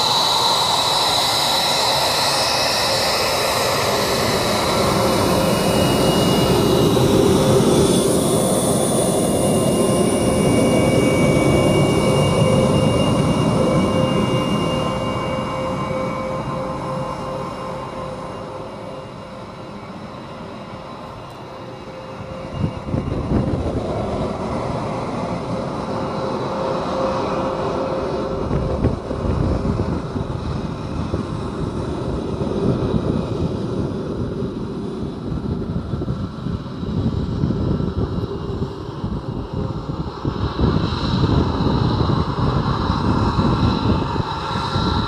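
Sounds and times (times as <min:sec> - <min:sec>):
jet engine whine and drone: 0:00.0 - 0:45.0.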